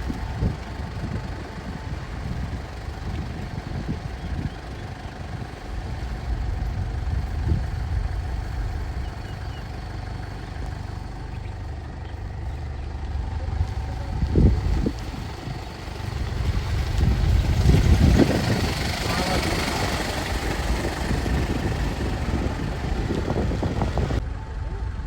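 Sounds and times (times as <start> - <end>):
jeep driving on dirt track: 0.0 - 25.0.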